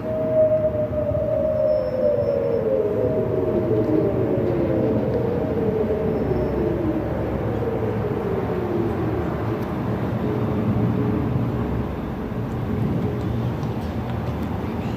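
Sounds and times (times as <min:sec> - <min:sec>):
warning siren wailing: 0:00.0 - 0:12.1.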